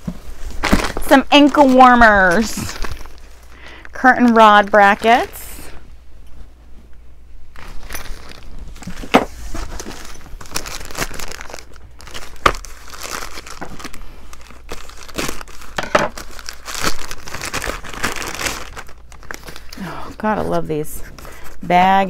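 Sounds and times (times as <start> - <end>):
plastic bags crinkling: 0.3 - 5.8, 7.5 - 20.3.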